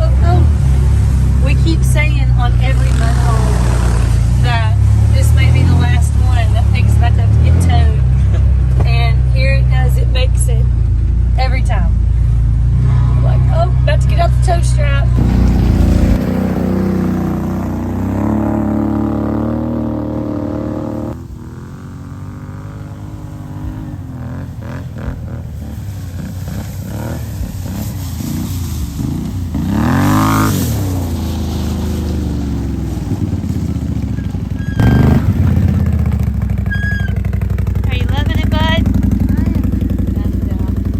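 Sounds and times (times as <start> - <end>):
engine revving: 0.0 - 40.9
off-road vehicle engines running: 0.0 - 40.9.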